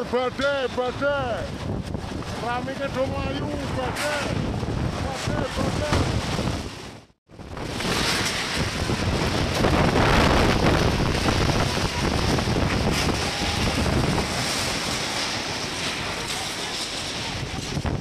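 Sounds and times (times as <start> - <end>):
wind blasting microphone: 0.0 - 18.0.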